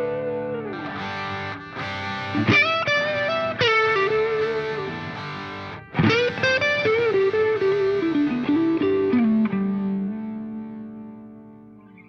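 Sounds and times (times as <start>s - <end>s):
distorted electric guitar melody: 0.0s - 12.0s.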